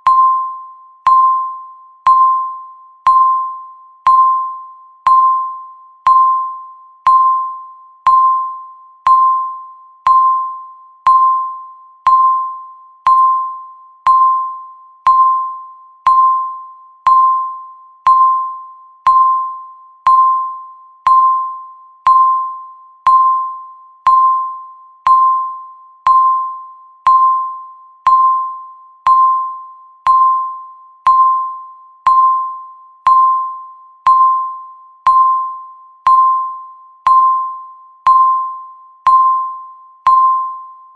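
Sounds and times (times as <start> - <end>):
countdown timer ticking pings: 0.0 - 40.9.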